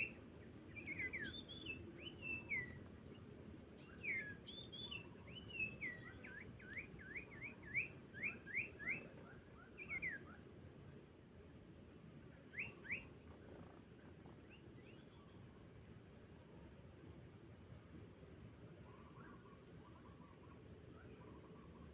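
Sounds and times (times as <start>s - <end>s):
small bird chirping: 0.0s - 11.1s, 11.8s - 16.4s, 18.1s - 21.9s.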